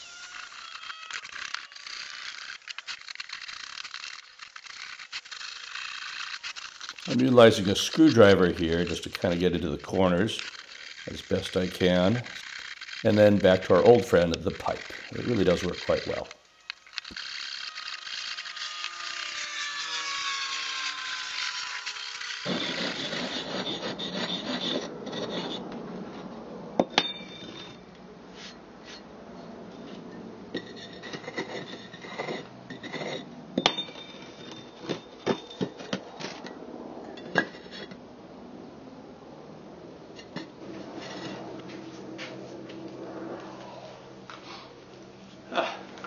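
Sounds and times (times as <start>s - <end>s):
steel pipe scraping firebrick: 0.0s - 29.1s, 29.7s - 38.0s, 40.1s - 45.4s.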